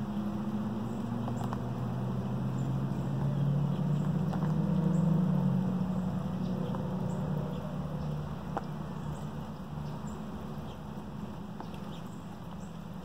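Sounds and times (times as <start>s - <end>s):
distant vehicle engine drone: 0.0s - 13.0s.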